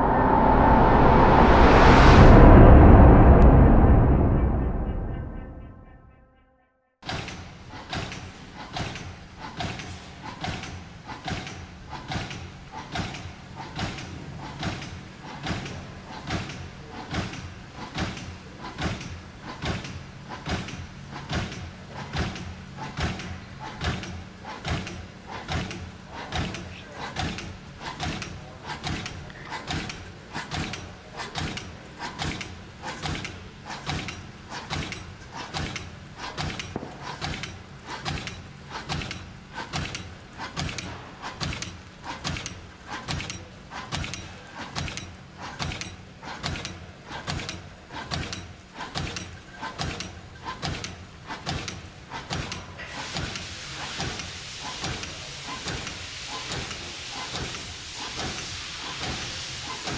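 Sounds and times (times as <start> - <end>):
steady hiss: 7.4 - 59.9.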